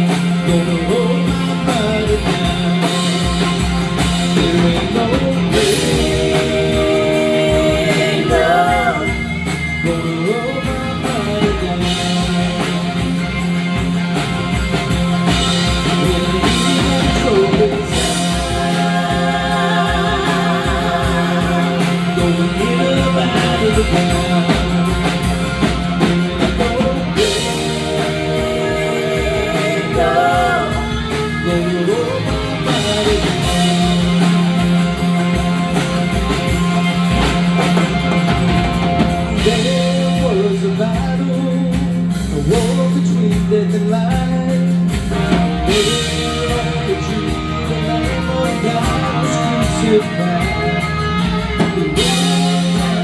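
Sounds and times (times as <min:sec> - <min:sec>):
rock band playing instrumental: 0:00.0 - 0:53.0.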